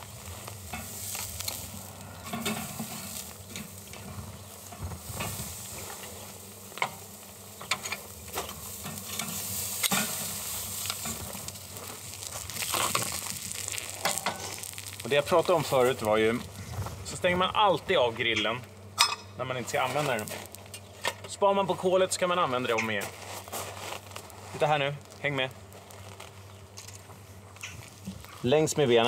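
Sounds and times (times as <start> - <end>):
meat sizzling on a grill: 0.0 - 21.0, 21.9 - 29.0.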